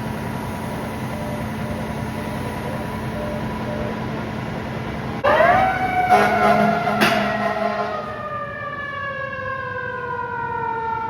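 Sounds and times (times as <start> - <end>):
fire truck siren wailing: 0.0 - 11.0.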